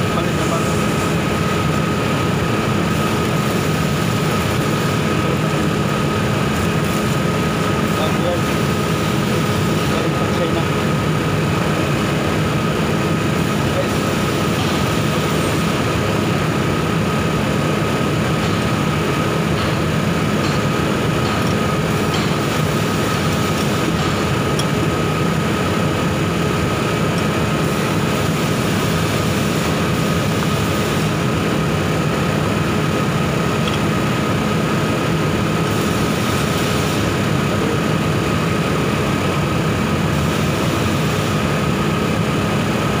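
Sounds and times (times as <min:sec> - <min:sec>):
mechanical drone with high whine: 0:00.0 - 0:43.0.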